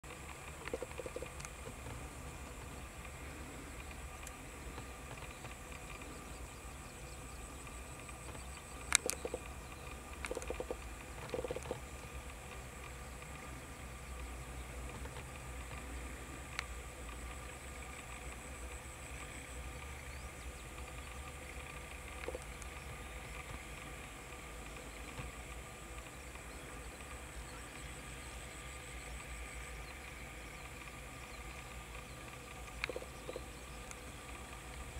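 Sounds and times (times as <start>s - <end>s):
faint wetland background: 0.0s - 34.9s
steady low hum: 0.0s - 34.9s
rapid low ticking animal calls: 0.1s - 34.9s.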